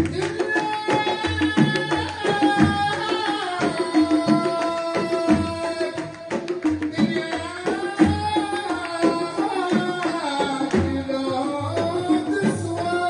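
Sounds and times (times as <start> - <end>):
frame drums beating: 0.0 - 13.0
man singing: 0.0 - 13.0.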